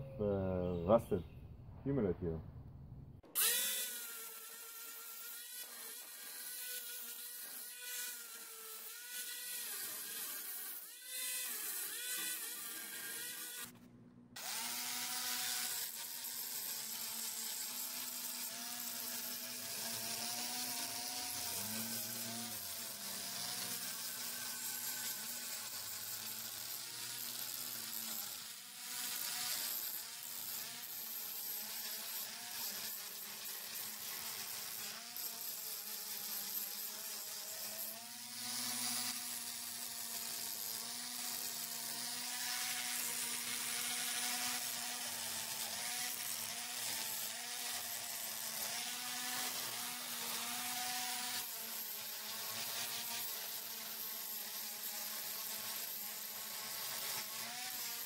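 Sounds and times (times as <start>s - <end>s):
angle grinder grinding metal: 3.2s - 58.0s.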